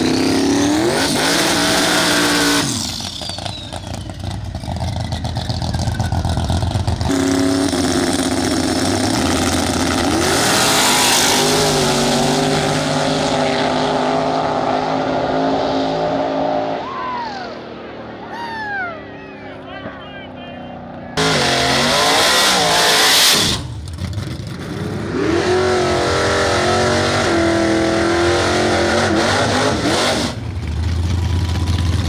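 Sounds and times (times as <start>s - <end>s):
race car engine revving: 0.0s - 16.9s, 20.6s - 32.0s
race cars launching: 0.0s - 32.0s.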